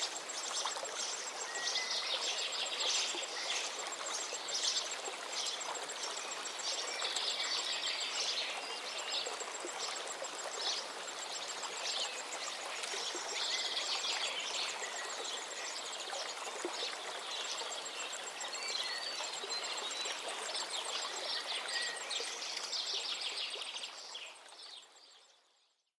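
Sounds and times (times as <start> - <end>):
stream water flowing: 0.0 - 25.5.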